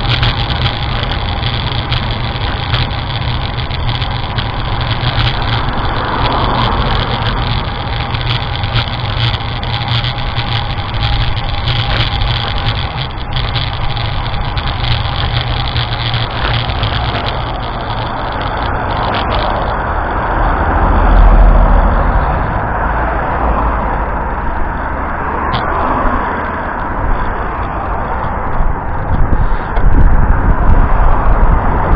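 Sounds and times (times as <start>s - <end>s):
strong wind on microphone: 0.0s - 31.9s.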